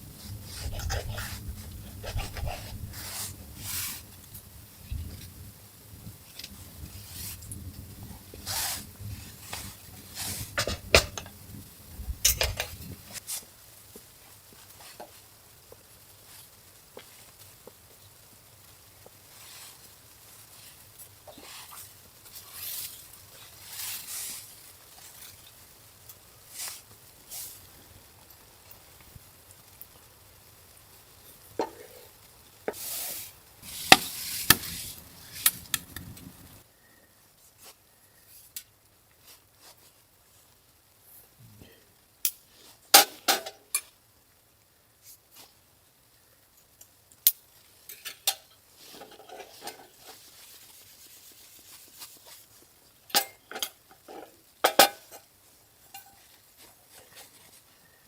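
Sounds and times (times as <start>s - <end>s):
handling rustles and scrapes: 0.0s - 30.0s, 31.2s - 41.4s, 42.3s - 44.0s, 45.0s - 45.6s, 47.5s - 58.0s.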